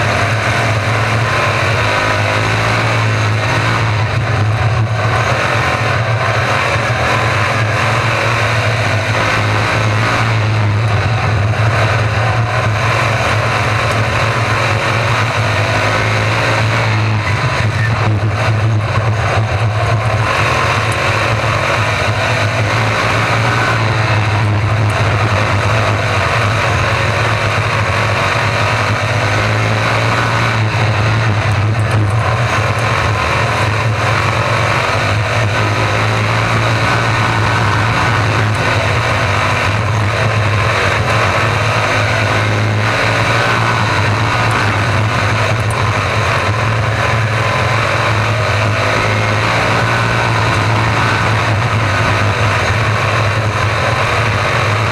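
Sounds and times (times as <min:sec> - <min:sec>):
race car engines roaring: 0:00.0 - 0:54.9.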